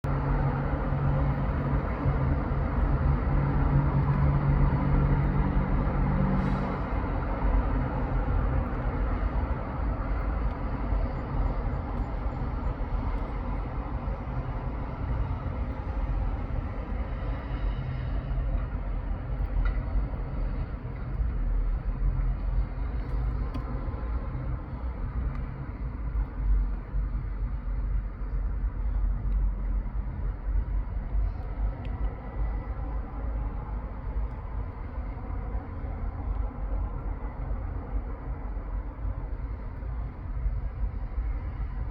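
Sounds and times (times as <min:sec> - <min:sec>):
road traffic rumble: 0:00.1 - 0:41.9.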